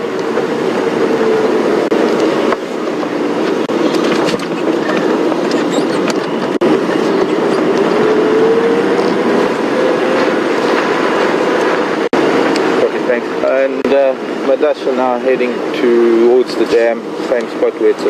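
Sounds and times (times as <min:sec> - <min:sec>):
vehicle engine drone: 0:00.0 - 0:18.0
vehicle rattling and clatter: 0:00.0 - 0:18.0.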